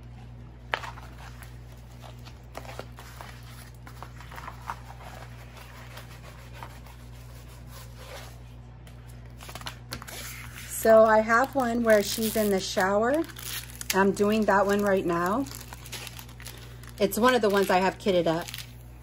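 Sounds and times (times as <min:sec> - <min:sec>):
steady low hum: 0:00.0 - 0:19.0
plastic packaging rustling: 0:00.6 - 0:06.6, 0:09.3 - 0:18.8.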